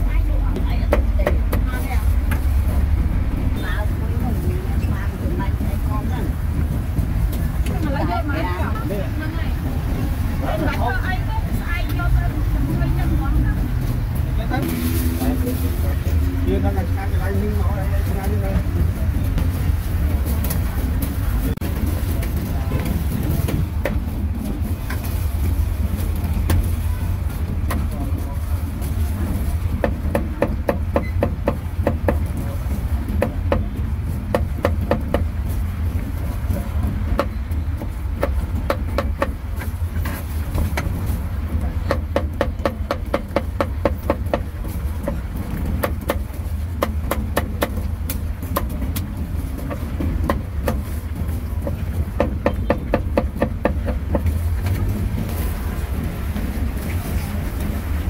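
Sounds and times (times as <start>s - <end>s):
low rumble of road traffic: 0.0s - 58.0s.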